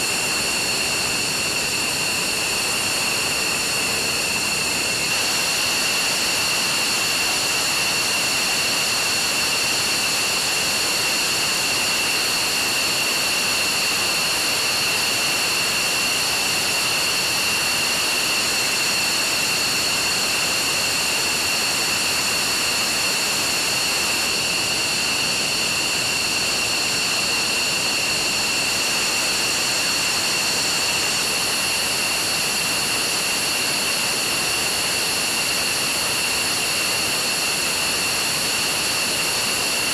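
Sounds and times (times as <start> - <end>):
jet engines idling with turbine whine: 0.0 - 39.9.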